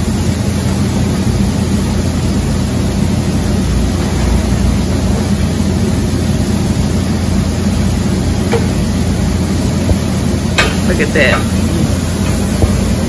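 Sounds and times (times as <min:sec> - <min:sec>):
exhaust hood fan running: 0:00.0 - 0:13.0.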